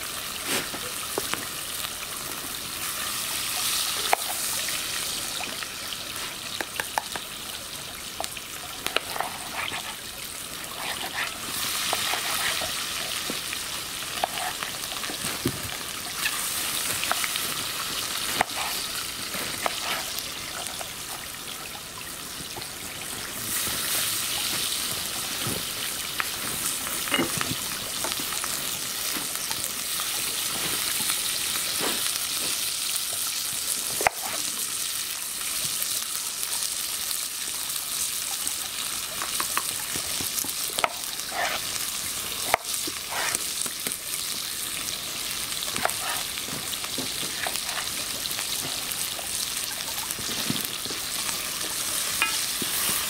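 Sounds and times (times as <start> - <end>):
campfire sizzling: 0.0 - 53.0
fire crackling: 0.0 - 53.0.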